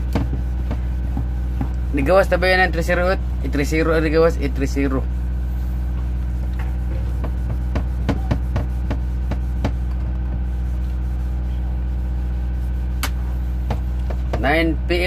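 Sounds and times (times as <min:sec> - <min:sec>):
eraser rubbing on whiteboard: 0:00.0 - 0:14.6
steady low hum: 0:00.0 - 0:15.0.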